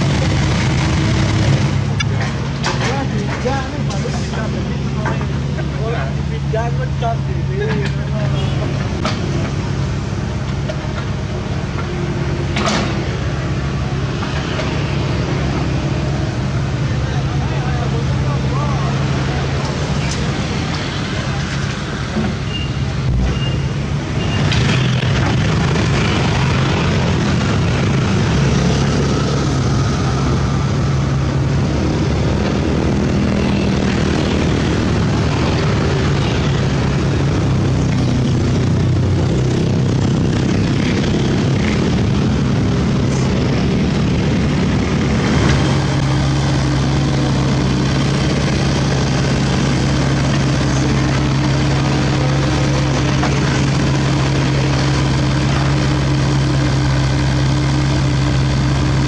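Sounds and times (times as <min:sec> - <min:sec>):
diesel engine humming: 0:00.0 - 0:59.0
road traffic passing: 0:00.0 - 0:59.0.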